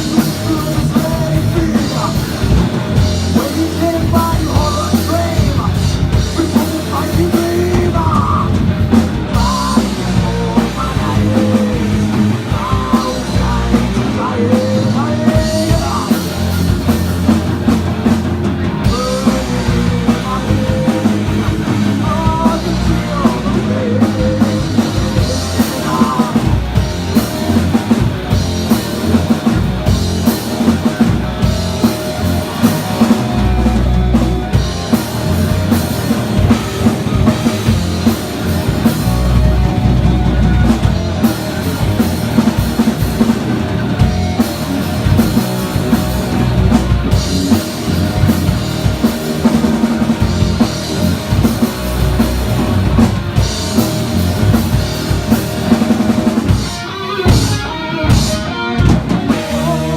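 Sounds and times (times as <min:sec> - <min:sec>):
bass guitar: 0:00.0 - 0:59.9
distorted electric guitars: 0:00.0 - 0:59.9
drum kit with bass drum: 0:00.0 - 0:59.9.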